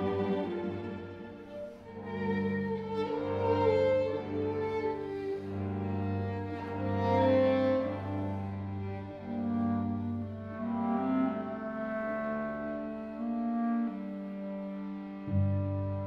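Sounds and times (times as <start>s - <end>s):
clarinet: 0.0s - 16.0s
string quartet playing: 0.0s - 16.0s.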